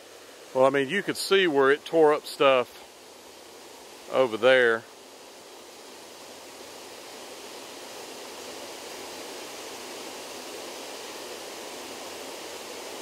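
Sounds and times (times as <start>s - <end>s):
water rushing over spillway: 0.0s - 13.0s.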